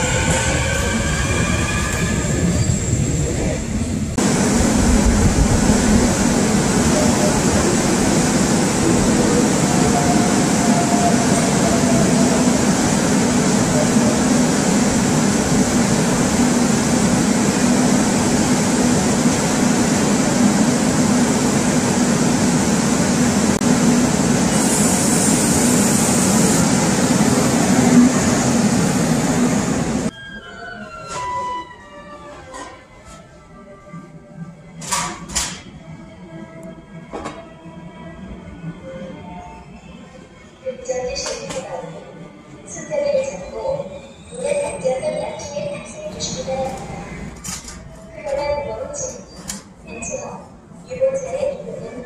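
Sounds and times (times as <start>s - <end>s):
subway train rumbling: 0.0s - 52.0s.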